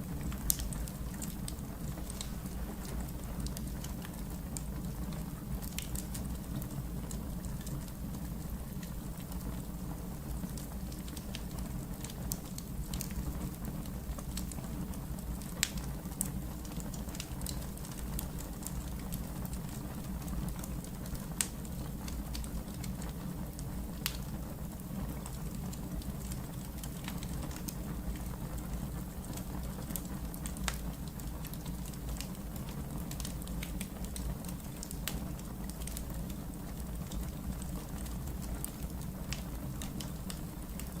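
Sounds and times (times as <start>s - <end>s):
fire low rumble: 0.0s - 41.0s
wood fire crackling and popping: 0.0s - 41.0s.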